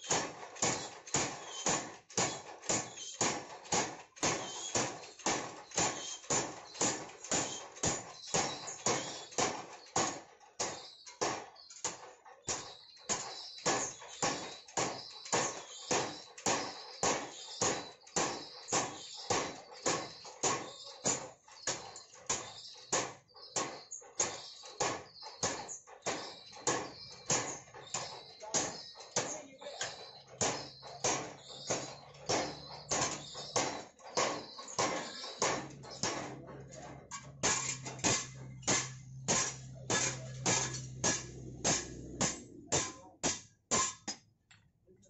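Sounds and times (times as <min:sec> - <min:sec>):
power hammer striking steel: 0:00.0 - 0:44.2.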